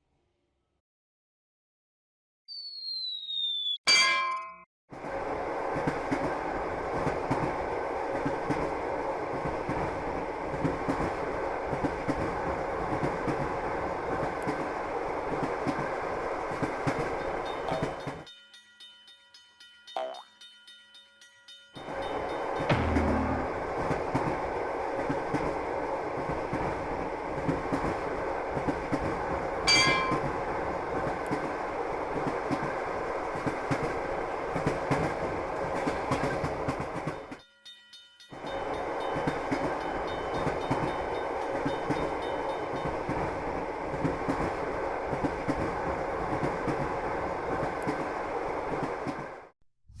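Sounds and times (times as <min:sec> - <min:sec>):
train running on track: 0:04.9 - 0:49.5.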